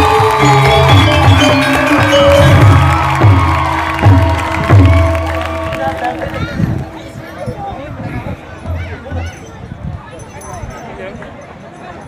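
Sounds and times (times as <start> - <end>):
gamelan music: 0.0 - 10.9.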